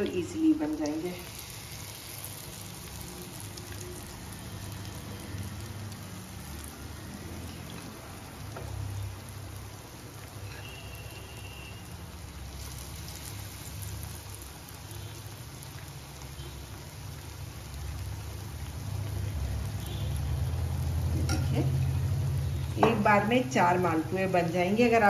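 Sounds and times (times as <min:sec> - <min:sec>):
batter sizzling in oil: 0:00.0 - 0:25.0.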